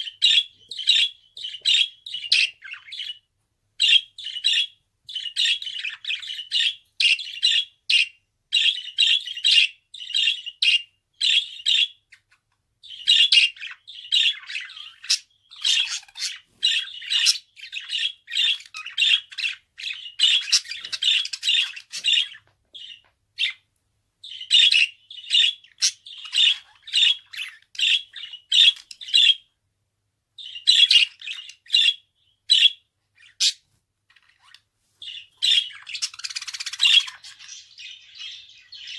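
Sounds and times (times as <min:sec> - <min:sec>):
budgerigar chirping and squawking: 0:00.0 - 0:23.6, 0:24.2 - 0:29.5, 0:30.4 - 0:38.9.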